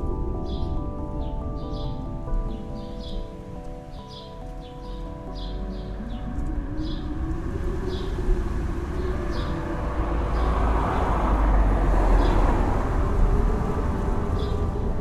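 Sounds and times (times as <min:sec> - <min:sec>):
wind howling: 0:00.0 - 0:15.0.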